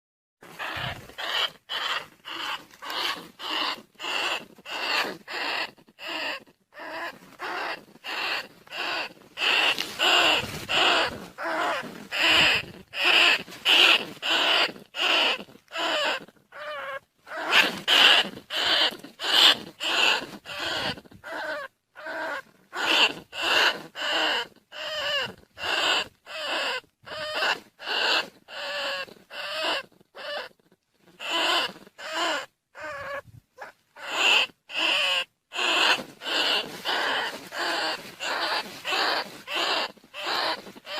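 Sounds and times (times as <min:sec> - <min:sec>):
rats squeaking: 0:00.4 - 0:40.9.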